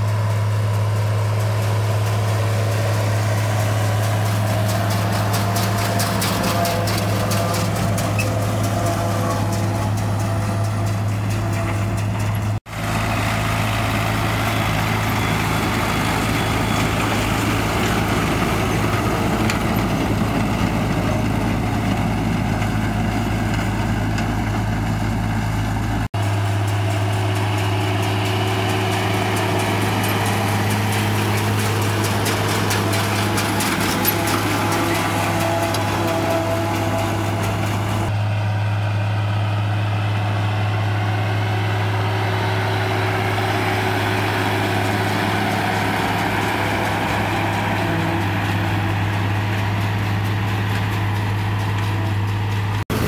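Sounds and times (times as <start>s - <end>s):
rough rumbling mower machine: 0.0s - 53.0s
tractor engine running: 0.0s - 53.0s.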